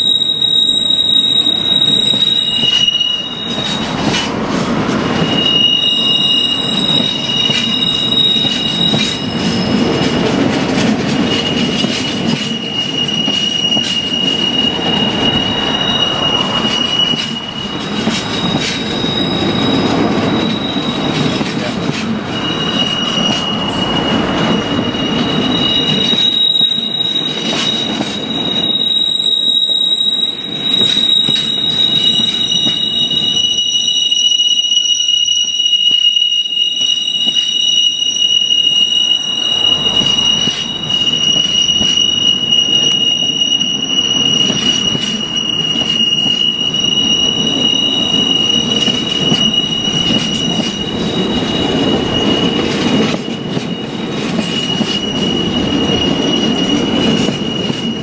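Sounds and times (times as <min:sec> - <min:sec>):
high-pitched wheel squeal: 0:00.0 - 0:04.3, 0:05.0 - 0:10.1, 0:11.0 - 0:58.0
train wheels rumbling on rails: 0:00.0 - 0:58.0.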